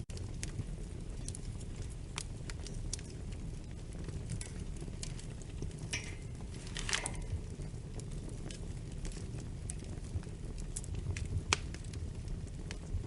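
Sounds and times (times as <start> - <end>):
fire low rumble: 0.0 - 13.0
wood fire crackling: 0.0 - 13.0.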